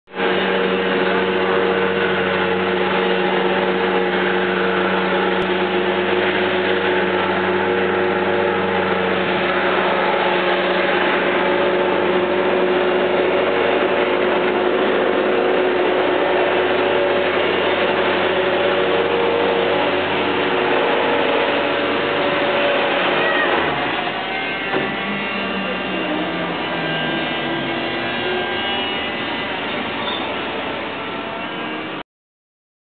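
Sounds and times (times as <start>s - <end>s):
high-pitched whine: 0.1s - 32.0s
loader engine drone: 0.1s - 32.0s.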